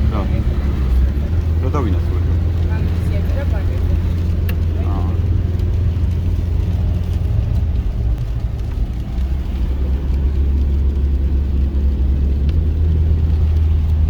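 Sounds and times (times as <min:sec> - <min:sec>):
car engine rumble: 0:00.0 - 0:14.0
road noise inside car cabin: 0:00.0 - 0:14.0.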